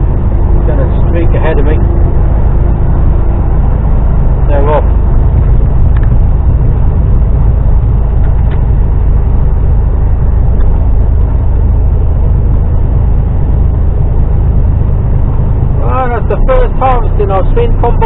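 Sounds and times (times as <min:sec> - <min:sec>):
lorry diesel engine drone: 0:00.0 - 0:18.0
road noise: 0:00.0 - 0:18.0.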